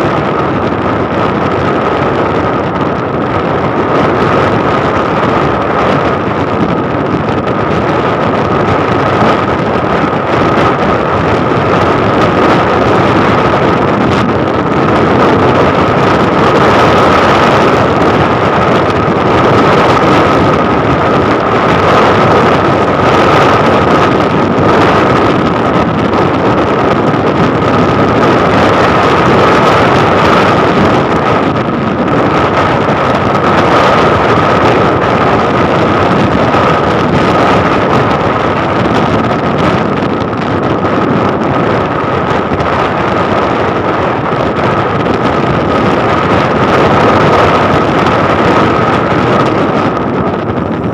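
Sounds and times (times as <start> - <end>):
high whine: 0.0 - 50.9
motorcycle engine running: 0.0 - 50.9
wind rushing over microphone: 0.0 - 50.9.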